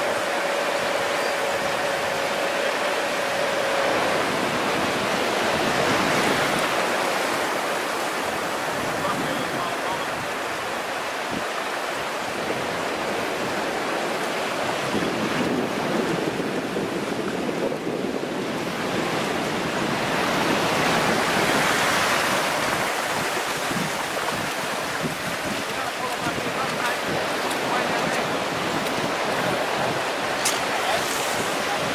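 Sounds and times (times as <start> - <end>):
surf: 0.0 - 31.9
wind on microphone: 0.0 - 31.9.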